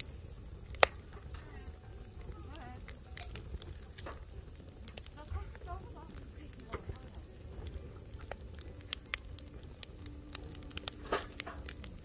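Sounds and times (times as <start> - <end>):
firewood crackling and popping: 0.0 - 12.0
low rumble of flame: 0.0 - 12.0.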